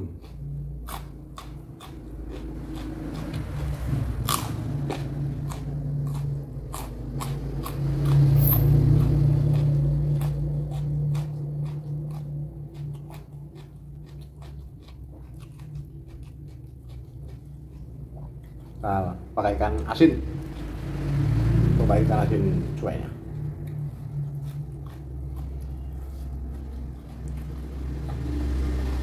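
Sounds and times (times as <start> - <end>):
crunchy chewing: 0.0 - 21.8, 22.8 - 29.0
low steady hum: 0.0 - 29.0.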